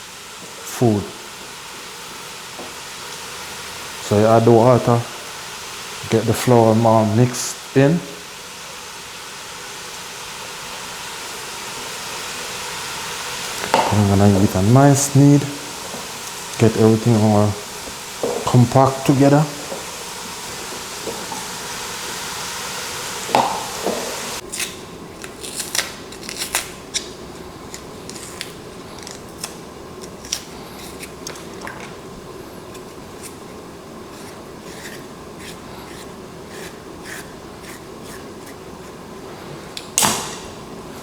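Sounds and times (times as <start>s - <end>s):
frying meat sizzling: 0.0s - 41.0s.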